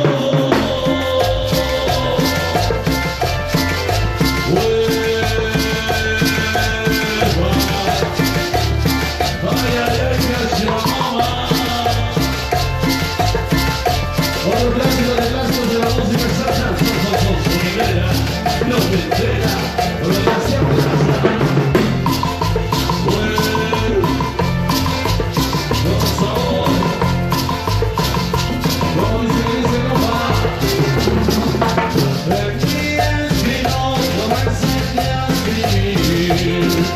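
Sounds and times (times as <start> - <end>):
live band playing dance music: 0.0 - 36.9
shaker and drum percussion: 0.0 - 36.9.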